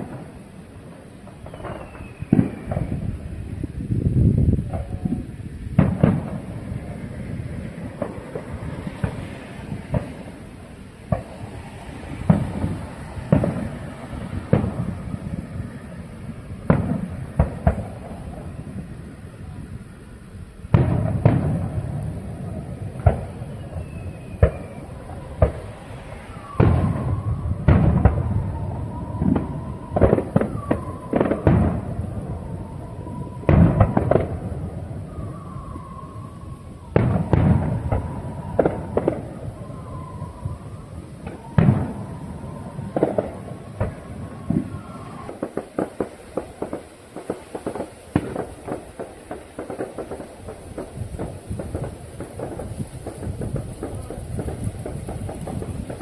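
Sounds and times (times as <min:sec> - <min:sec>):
fireworks bangs and cracks: 0:00.0 - 0:56.0.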